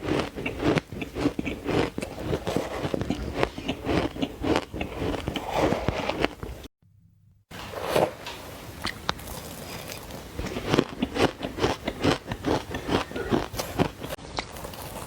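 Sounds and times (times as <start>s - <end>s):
biting into frozen ice crunches: 0.0s - 6.7s, 9.1s - 15.0s.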